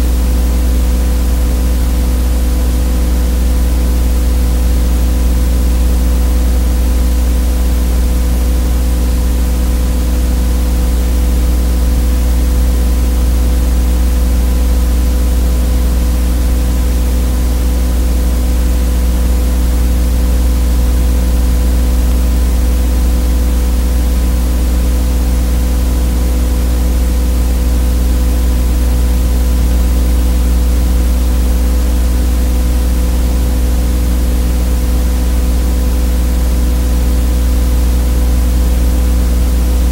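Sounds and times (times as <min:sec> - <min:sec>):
low electrical buzz: 0:00.0 - 0:39.9.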